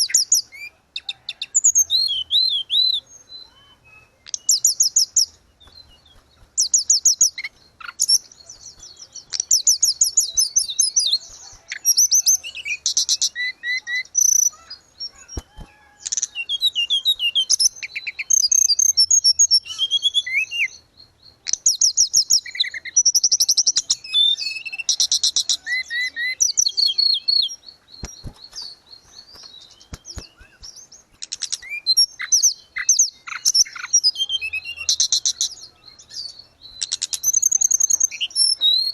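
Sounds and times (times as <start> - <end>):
bird singing trills and whistles: 0.0 - 38.9.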